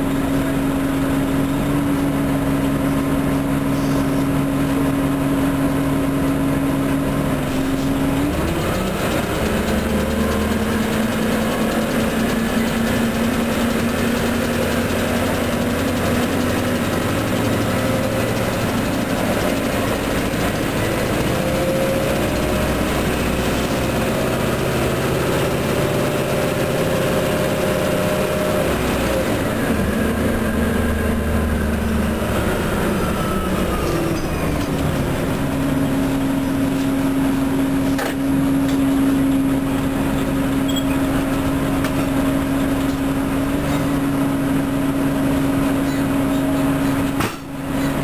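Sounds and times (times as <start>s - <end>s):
bus engine whine and drone: 0.0s - 48.0s.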